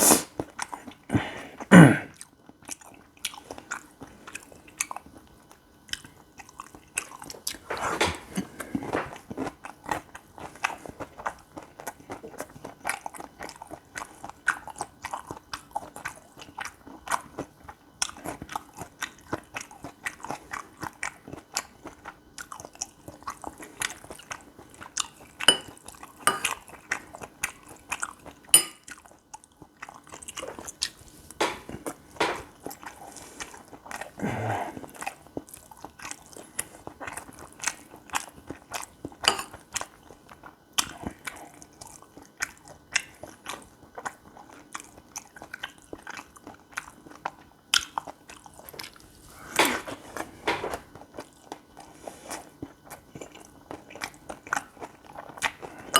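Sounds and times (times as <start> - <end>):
chewing and biting food: 0.2 - 55.9.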